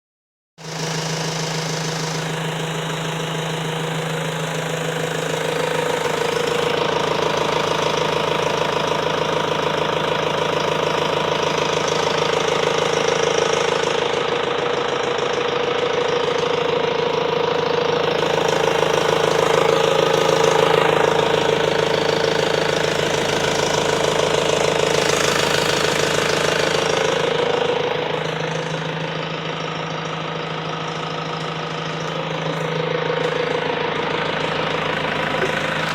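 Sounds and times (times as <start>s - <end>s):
diesel engine idling: 0.6s - 35.9s.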